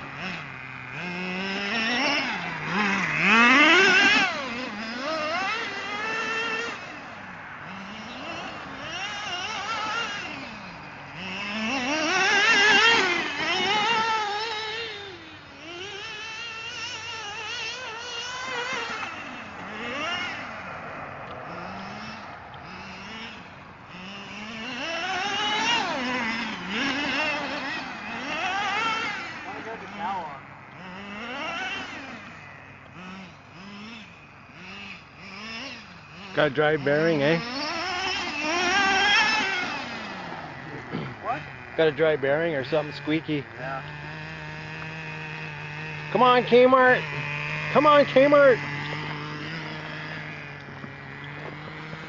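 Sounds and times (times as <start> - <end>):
model truck engine revving: 0.0 - 52.0.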